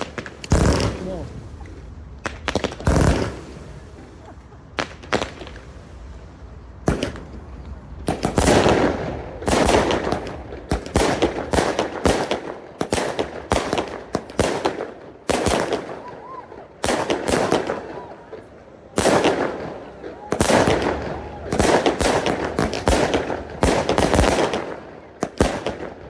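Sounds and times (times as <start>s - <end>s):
fireworks bursting with bangs: 0.0s - 26.0s
fireworks crackle: 0.0s - 26.0s.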